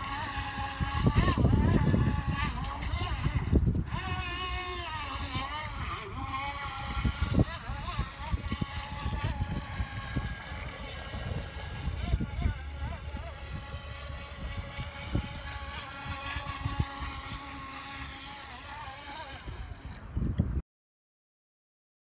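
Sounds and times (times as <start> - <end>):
toy motor whining: 0.0 - 20.0.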